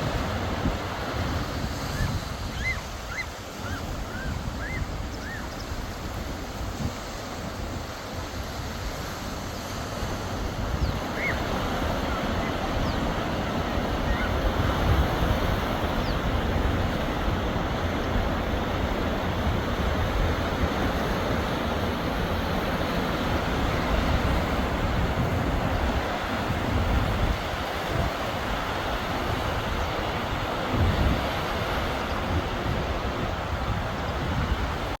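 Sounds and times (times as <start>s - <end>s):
sea waves washing onto shore: 0.0s - 35.0s
wind buffeting microphone: 0.0s - 35.0s.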